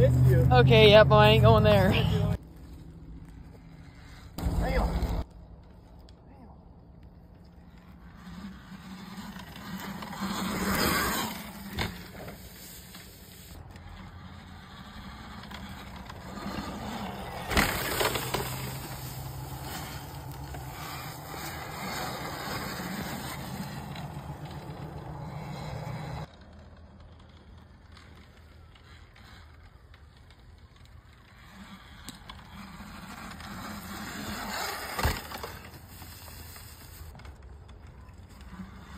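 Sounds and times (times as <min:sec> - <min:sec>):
electric dirt bike riding: 0:00.0 - 0:38.9.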